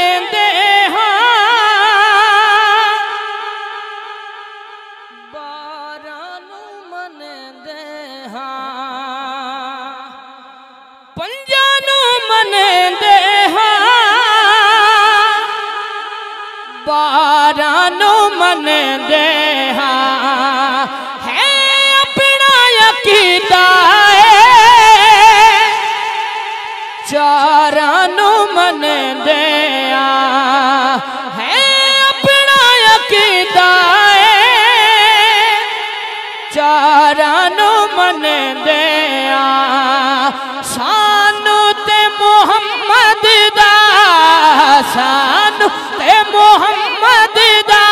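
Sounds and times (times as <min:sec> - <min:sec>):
man singing into a microphone: 0:00.0 - 0:47.9.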